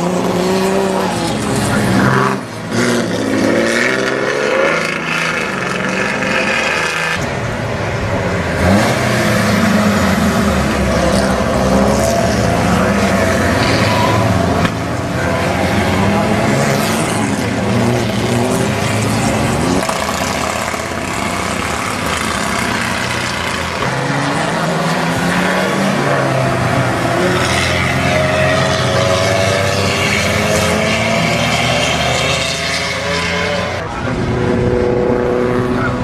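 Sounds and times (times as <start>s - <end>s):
racing car engines accelerating: 0.0s - 36.0s.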